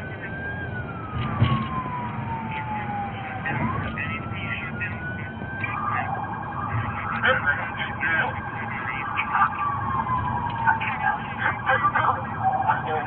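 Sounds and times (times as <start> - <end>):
police siren wailing and yelping: 0.0 - 13.0
road and engine noise: 0.0 - 13.0.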